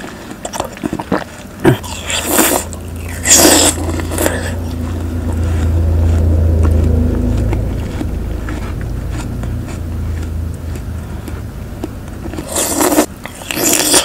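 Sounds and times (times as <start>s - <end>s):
steady low hum: 0.0s - 13.6s
biting and chewing watermelon: 0.0s - 14.0s.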